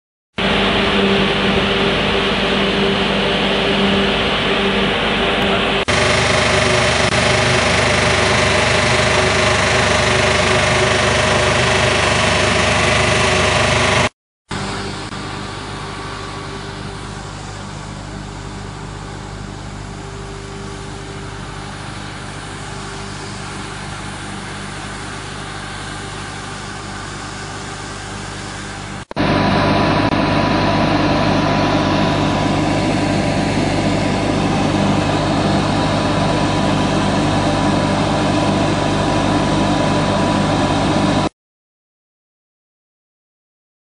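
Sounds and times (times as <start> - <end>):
fog cannon machinery humming: 0.4 - 41.3.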